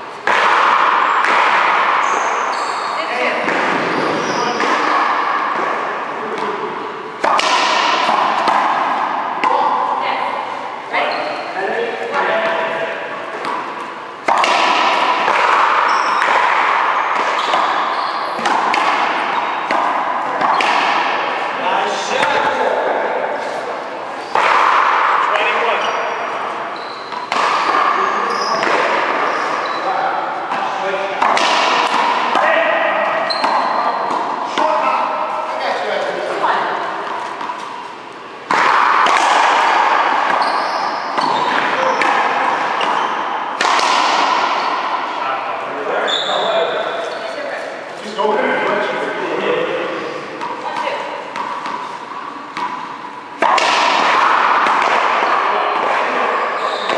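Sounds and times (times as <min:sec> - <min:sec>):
racquetball cracking off racquets: 0:00.1 - 0:09.9, 0:12.4 - 0:45.2, 0:50.0 - 0:56.9.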